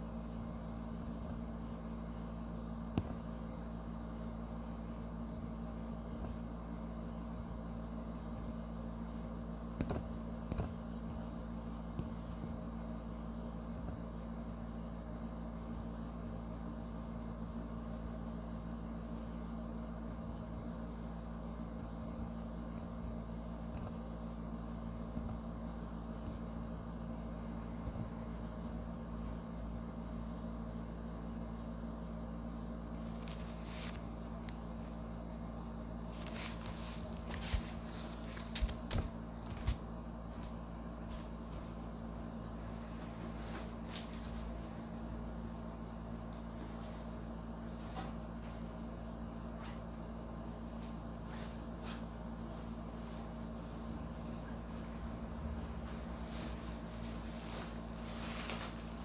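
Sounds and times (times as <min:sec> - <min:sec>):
room hum: 0:00.0 - 0:59.0.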